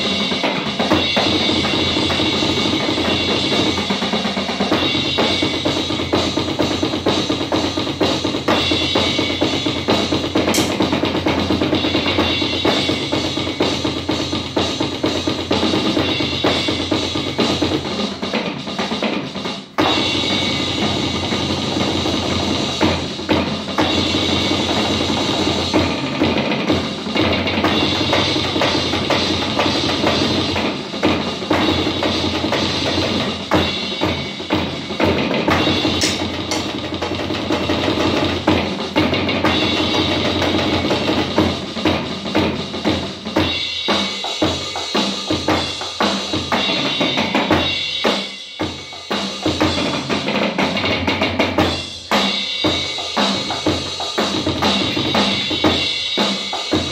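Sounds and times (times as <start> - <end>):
electronic drum kit playing: 0.0 - 56.9.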